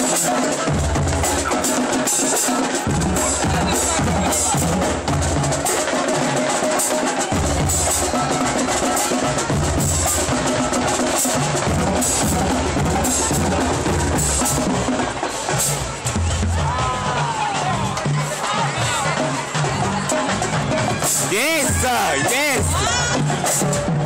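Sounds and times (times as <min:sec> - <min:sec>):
bass drums and snares: 0:00.0 - 0:24.0.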